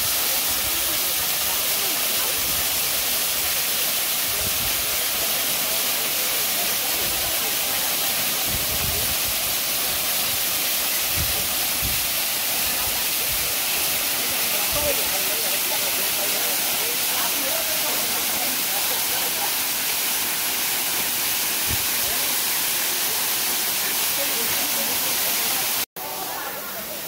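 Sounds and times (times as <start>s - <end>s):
waterfall hissing: 0.0s - 27.0s.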